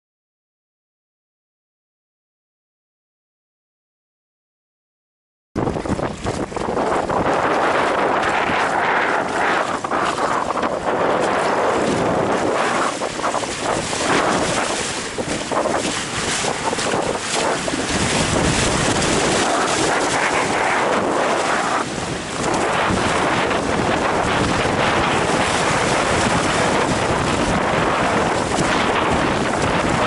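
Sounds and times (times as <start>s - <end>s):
wind buffeting microphone: 5.6s - 30.0s.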